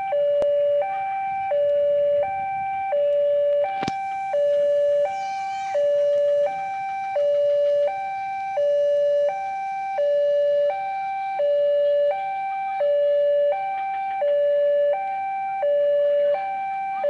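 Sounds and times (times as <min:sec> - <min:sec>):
level crossing alarm two-tone: 0:00.0 - 0:17.0.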